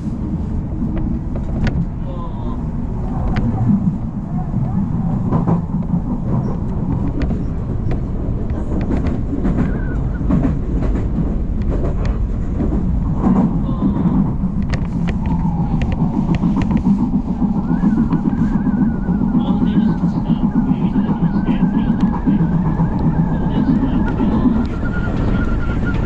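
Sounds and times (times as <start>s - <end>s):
electric train rumble: 0.0s - 26.0s
wheels clicking over rails: 2.7s - 26.0s.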